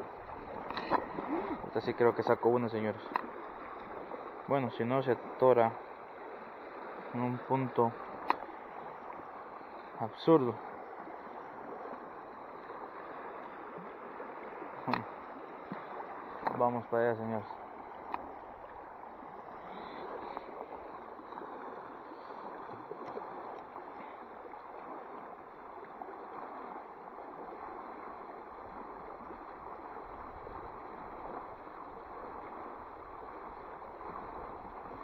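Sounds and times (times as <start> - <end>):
creek water rushing over rocks: 0.0 - 35.0.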